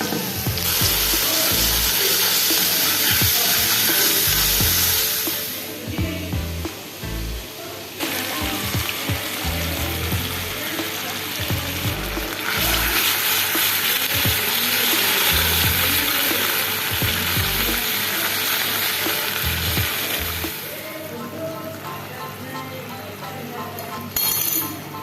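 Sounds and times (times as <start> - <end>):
chicken sizzling in hot oil: 0.0 - 6.0, 6.8 - 20.8
background music with low notes: 0.0 - 25.0.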